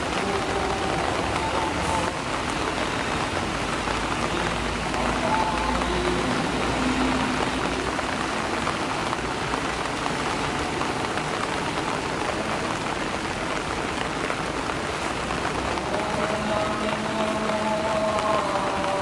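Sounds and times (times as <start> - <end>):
rain falling on leaves and water: 0.0 - 19.0.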